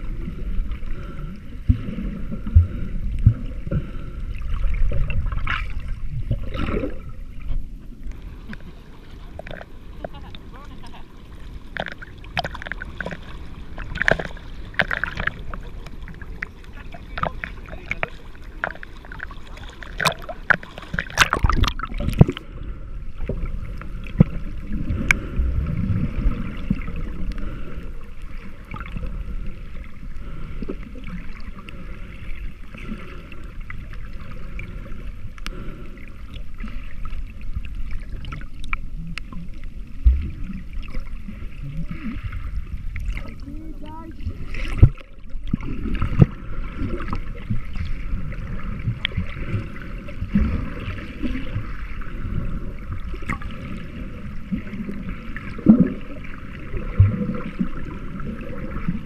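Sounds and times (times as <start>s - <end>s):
faint underwater gurgling: 0.0s - 59.0s
muffled underwater wash: 0.0s - 59.0s
water splashing and sloshing: 0.0s - 59.0s.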